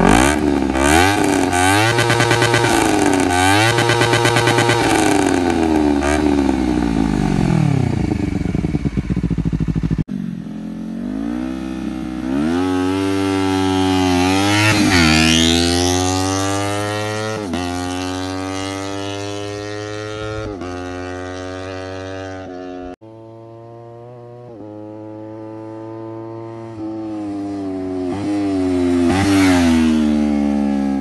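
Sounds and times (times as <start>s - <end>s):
motorcycle accelerating through gears: 0.0s - 31.0s.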